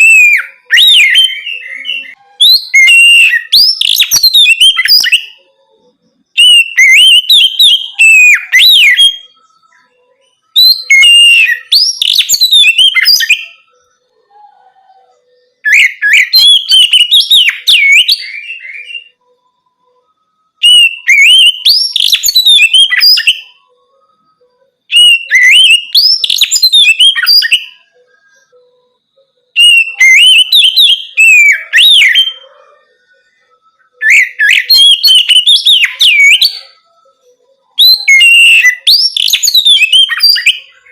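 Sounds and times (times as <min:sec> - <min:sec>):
magpie-robin singing whistles: 0:00.0 - 0:40.9.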